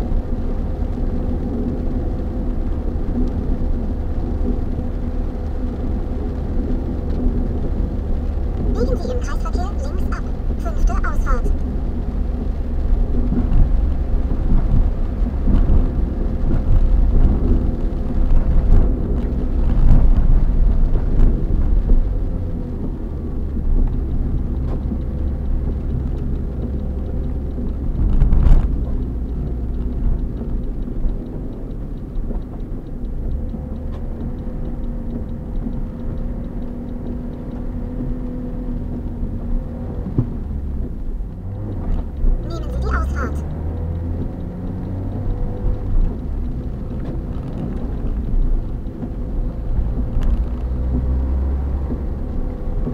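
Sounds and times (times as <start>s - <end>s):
engine and tyre rumble: 0.0s - 52.9s.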